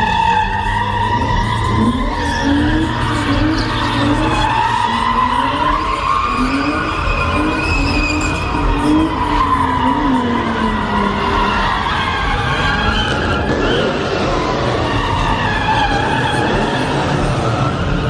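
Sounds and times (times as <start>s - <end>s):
car tyres squealing: 0.0s - 18.0s
engine revving: 0.0s - 18.0s.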